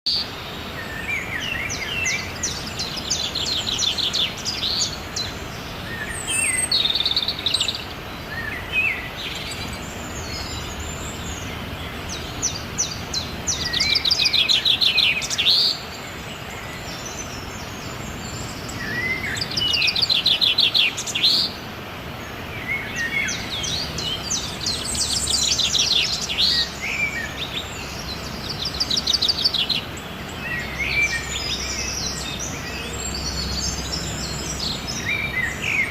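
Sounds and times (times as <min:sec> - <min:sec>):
background hiss: 0:00.1 - 0:35.9
songbirds singing: 0:00.1 - 0:35.9.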